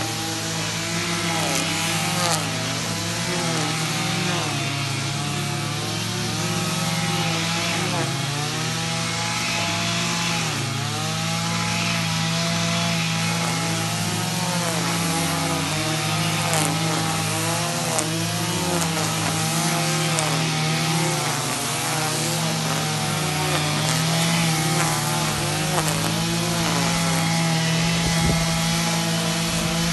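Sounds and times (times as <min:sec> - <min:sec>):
string trimmers cutting grass: 0:00.0 - 0:29.9.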